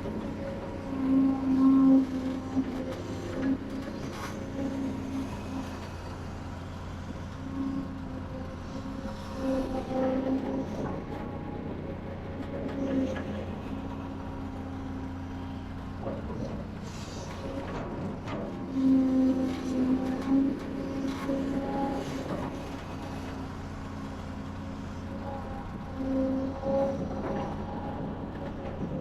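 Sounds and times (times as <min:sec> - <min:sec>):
heavy machinery diesel engine drone: 0:00.0 - 0:29.0.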